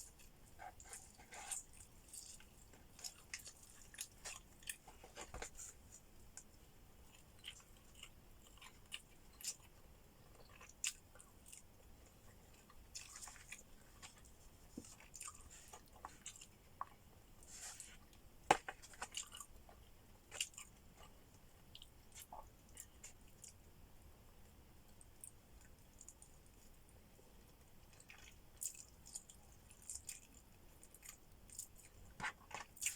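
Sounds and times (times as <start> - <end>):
chewing and crunching: 0.0 - 23.6, 24.9 - 32.9.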